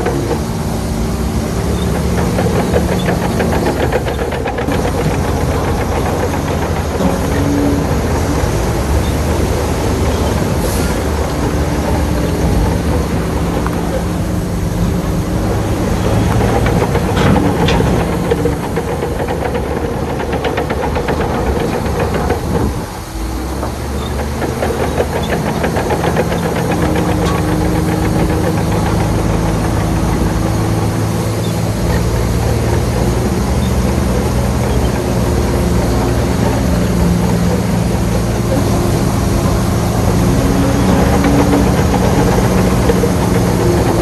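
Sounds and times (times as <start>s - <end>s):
bulldozer diesel engine: 0.0s - 44.0s
clattering rattle: 0.0s - 44.0s.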